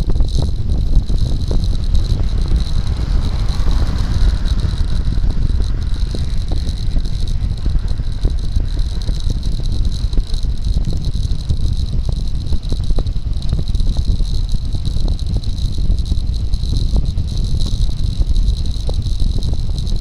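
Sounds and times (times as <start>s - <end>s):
road rumble: 0.0s - 20.0s
wind buffeting: 0.0s - 20.0s
camera mount rattling ticks: 0.2s - 20.0s.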